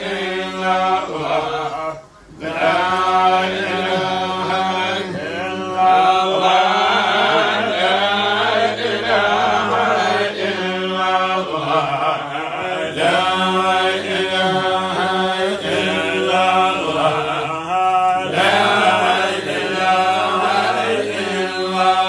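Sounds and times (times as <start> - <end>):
man chanting: 0.0 - 22.0.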